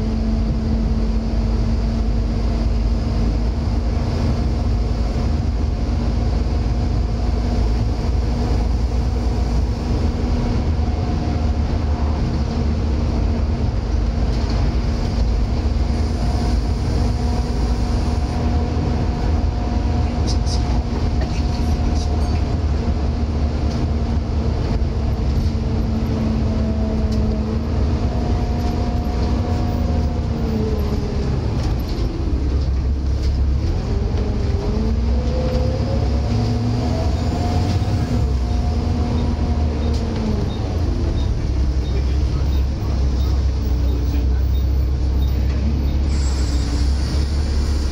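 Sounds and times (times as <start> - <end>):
diesel bus engine rumble: 0.0 - 47.9.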